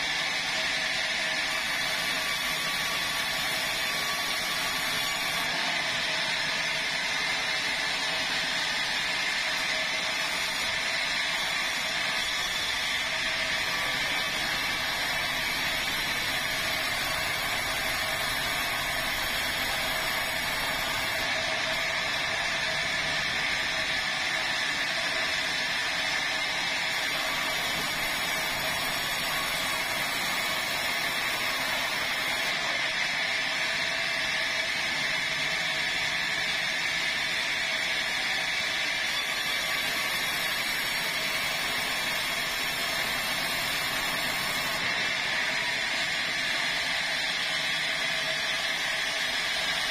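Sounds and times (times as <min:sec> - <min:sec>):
sawmill saw cutting log: 0:00.0 - 0:34.3, 0:36.5 - 0:49.9.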